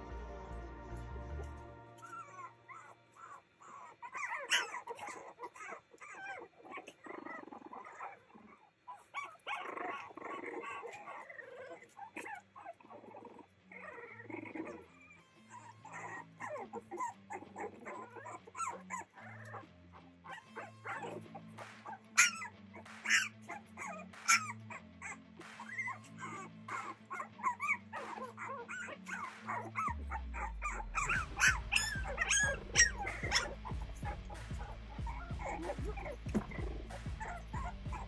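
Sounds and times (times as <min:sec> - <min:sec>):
background music: 0:00.0 - 0:06.3, 0:09.0 - 0:38.0
puppies yipping and whining: 0:01.4 - 0:38.0.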